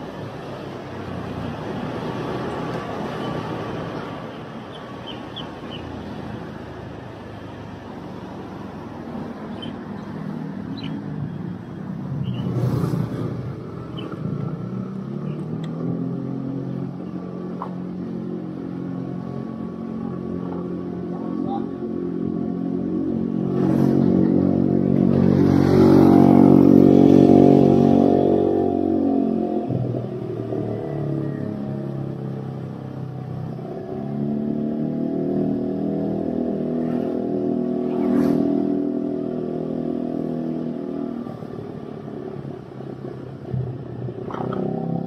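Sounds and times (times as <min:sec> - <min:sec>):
traffic engines running: 0:00.0 - 0:45.0
wind and road noise: 0:00.0 - 0:45.0.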